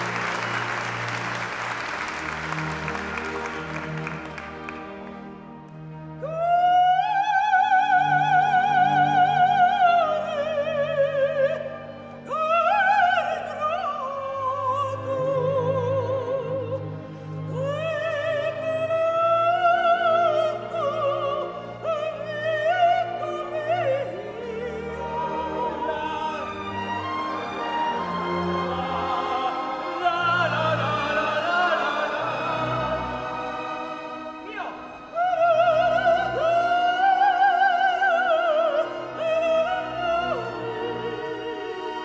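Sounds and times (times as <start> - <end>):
string orchestra: 0.0 - 42.0
operatic soprano singing: 6.0 - 42.0.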